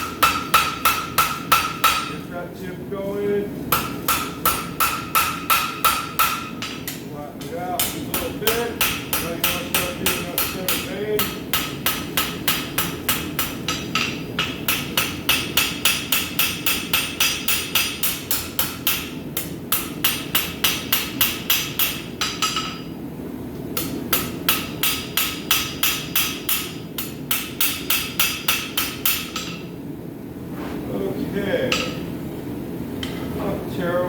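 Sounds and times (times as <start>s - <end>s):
hammer striking steel on anvil: 0.0s - 2.2s, 3.7s - 23.0s, 23.8s - 29.7s, 31.7s - 32.1s.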